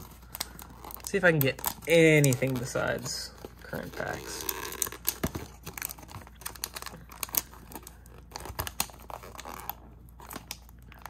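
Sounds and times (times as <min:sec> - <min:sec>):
card and foil wrappers crinkling: 0:00.0 - 0:11.0.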